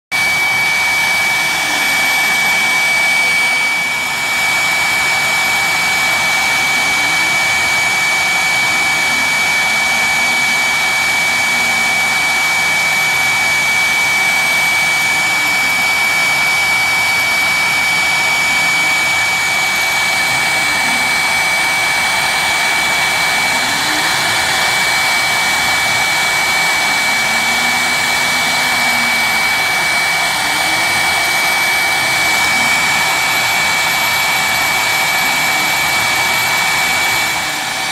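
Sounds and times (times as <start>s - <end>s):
engraving spindle high-pitched whine: 0.1s - 37.9s.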